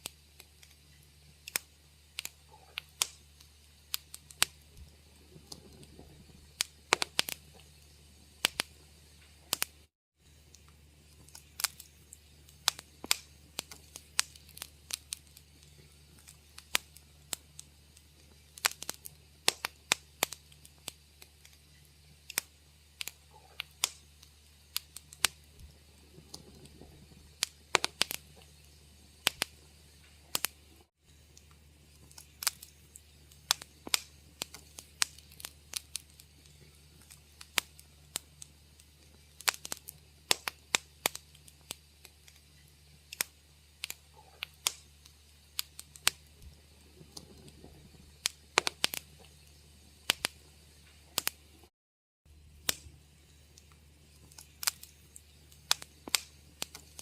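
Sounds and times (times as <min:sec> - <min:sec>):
low steady hum: 0:00.0 - 0:51.7, 0:52.3 - 0:57.0
wood fire crackling: 0:00.0 - 0:51.7, 0:52.3 - 0:57.0.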